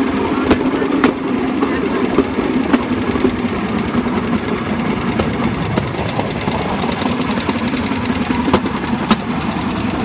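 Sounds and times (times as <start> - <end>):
small engine running: 0.0 - 10.0
wheels clicking on track: 0.0 - 10.0.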